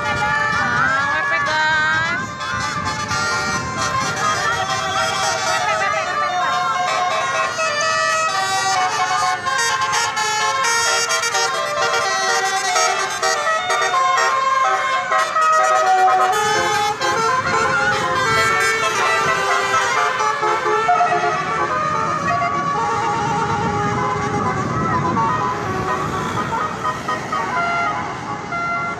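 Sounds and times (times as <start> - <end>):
musical air horn melody: 2.3 - 28.9.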